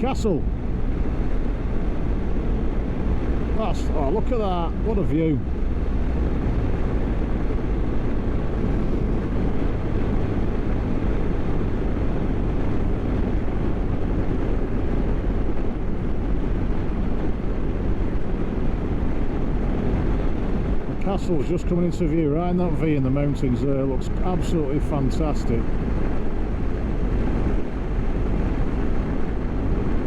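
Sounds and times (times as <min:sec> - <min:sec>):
road noise: 0:00.0 - 0:30.0
wind rushing over microphone: 0:00.0 - 0:30.0.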